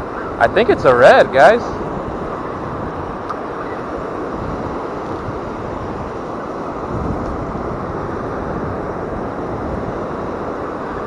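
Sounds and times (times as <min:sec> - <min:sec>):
surf washing onto beach: 0:00.0 - 0:11.0
wind rumbling on microphone: 0:00.0 - 0:11.0.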